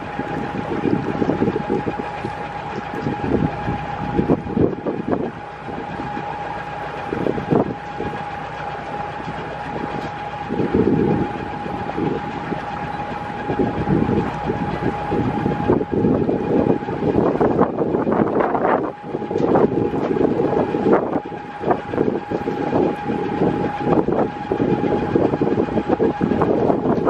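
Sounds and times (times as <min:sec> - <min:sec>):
boat engine whine: 0:00.0 - 0:27.0
wind buffeting microphone: 0:00.0 - 0:27.0.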